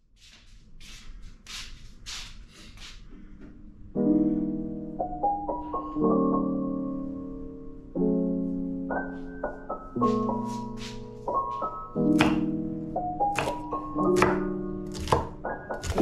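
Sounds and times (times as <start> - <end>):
piano chords: 3.2 - 16.0.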